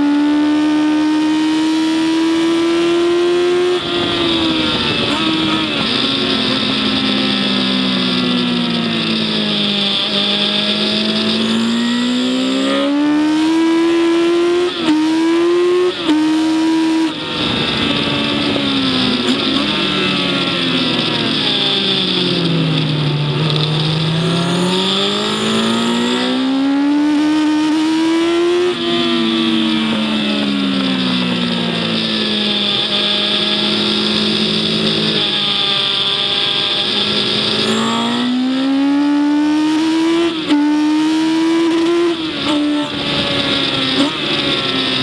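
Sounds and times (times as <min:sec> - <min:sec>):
race car engine accelerating: 0:00.0 - 0:45.0.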